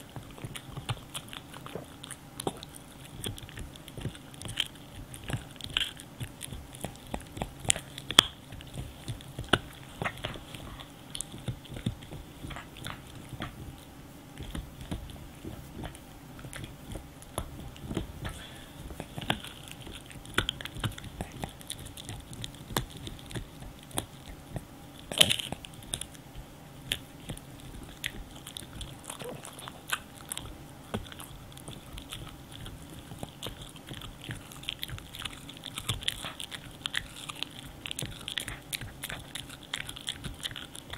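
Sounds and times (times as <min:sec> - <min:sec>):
dog chewing hard chew stick: 0:00.0 - 0:40.9.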